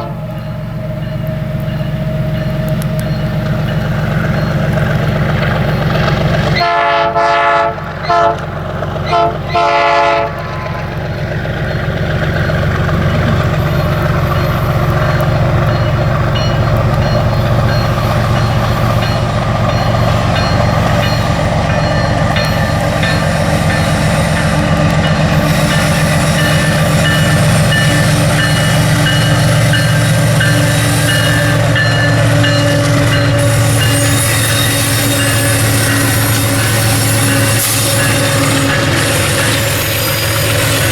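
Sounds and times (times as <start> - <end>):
train engine hum: 0.0 - 40.9
train wheels rumbling: 0.0 - 40.9.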